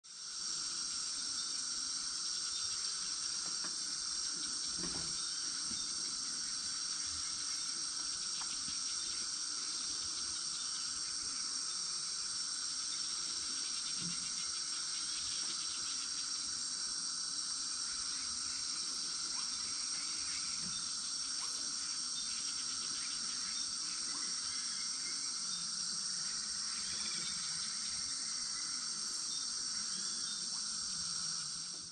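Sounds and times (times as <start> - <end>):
lower insect song: 0.0 - 31.9
insects chorus high-pitched: 0.1 - 31.9.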